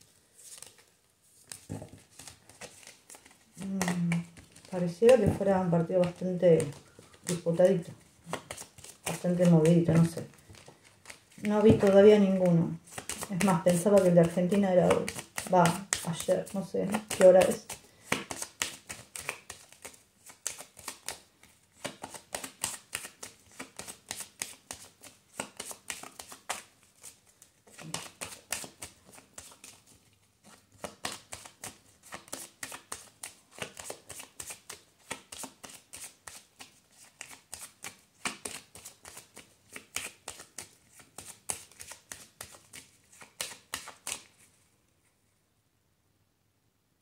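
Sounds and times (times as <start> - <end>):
cards being shuffled: 0.4 - 44.5.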